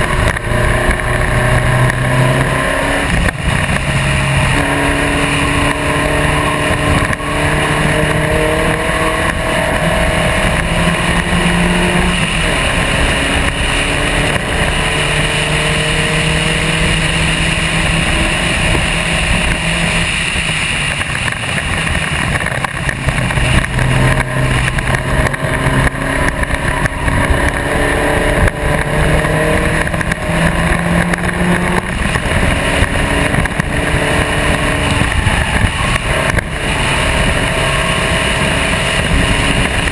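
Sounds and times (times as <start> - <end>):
racing car engine: 0.0 - 39.9
wind noise rushing: 0.0 - 39.9.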